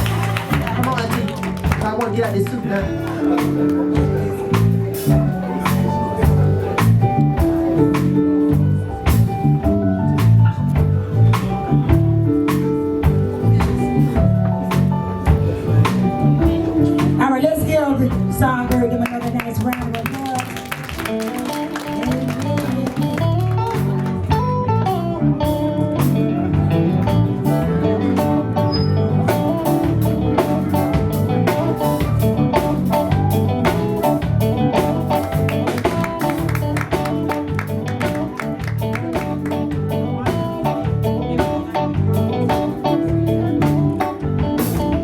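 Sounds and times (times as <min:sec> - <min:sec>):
bass: 0:00.0 - 0:45.0
guitar lines: 0:00.0 - 0:45.0
steady drum beat: 0:00.0 - 0:45.0.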